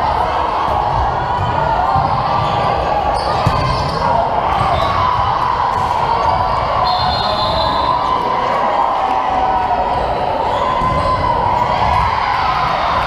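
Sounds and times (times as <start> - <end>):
echoing voices: 0.0 - 13.0.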